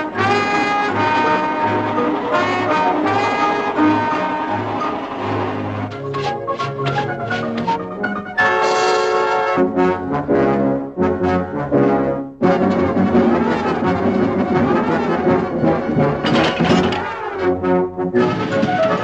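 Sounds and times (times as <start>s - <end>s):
brass-led orchestral music: 0.0s - 19.0s.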